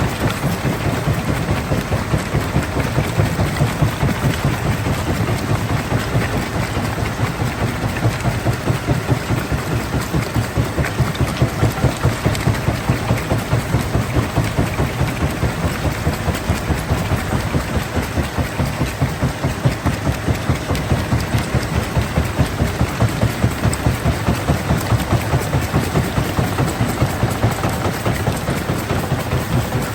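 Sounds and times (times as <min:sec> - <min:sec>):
stone-crushing machinery throbbing: 0:00.0 - 0:29.9.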